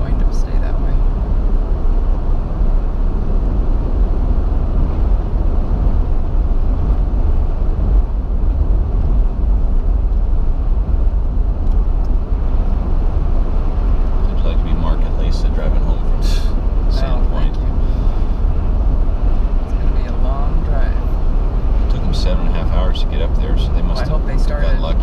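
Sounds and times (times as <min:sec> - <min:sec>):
car cabin road rumble: 0:00.0 - 0:25.0.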